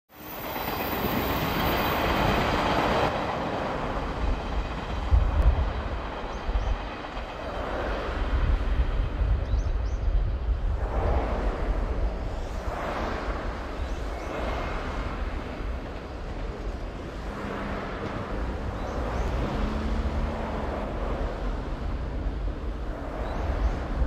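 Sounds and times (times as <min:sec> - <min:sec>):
train rumbling on track: 0:00.1 - 0:24.0.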